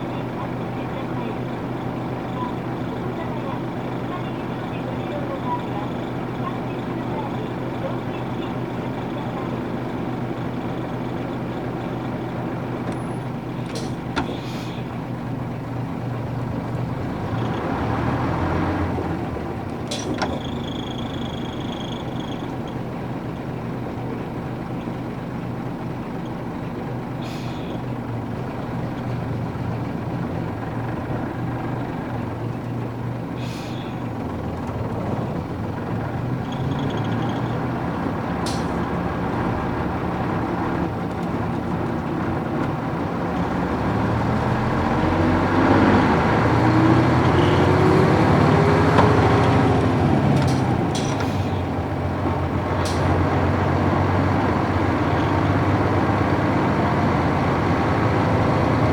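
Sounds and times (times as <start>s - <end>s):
bus engine drone: 0.0s - 58.9s.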